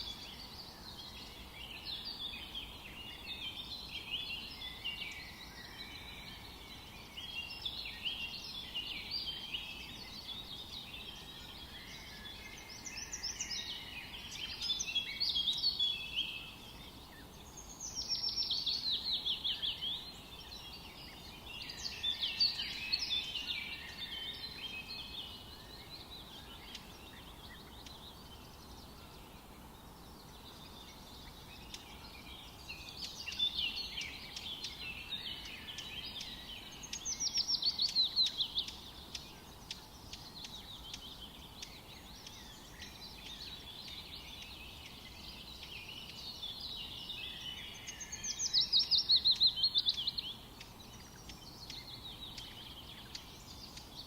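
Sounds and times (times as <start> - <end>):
faint background hiss: 0.0 - 54.0
songbirds chirping and trilling: 0.0 - 54.0.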